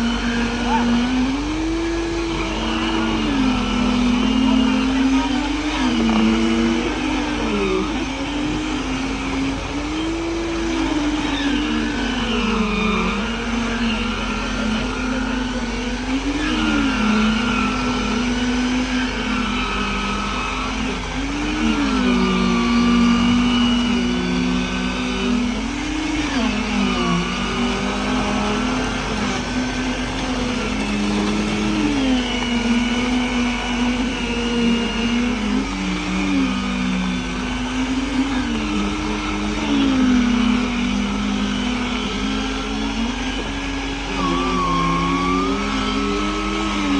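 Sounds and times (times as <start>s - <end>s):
machinery engine humming: 0.0s - 46.9s.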